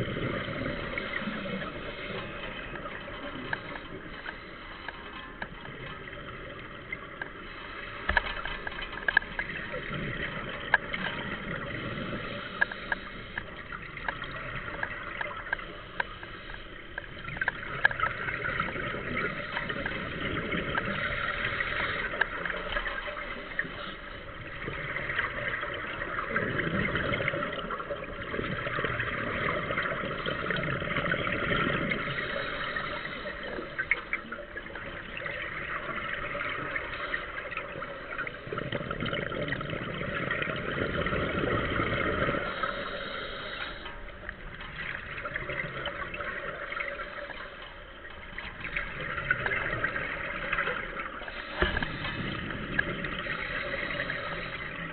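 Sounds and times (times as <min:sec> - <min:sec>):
exhaled bubbles gurgling underwater: 0:00.0 - 0:54.9.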